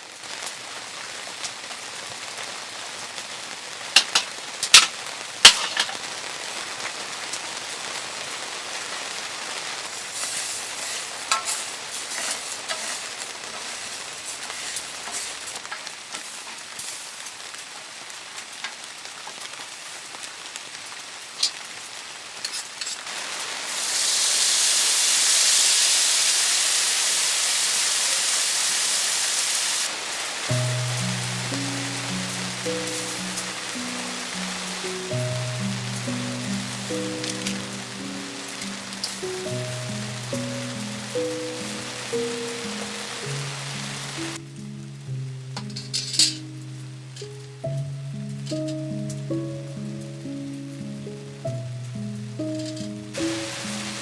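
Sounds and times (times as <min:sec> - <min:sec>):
sizzling hiss: 0:00.0 - 0:54.0.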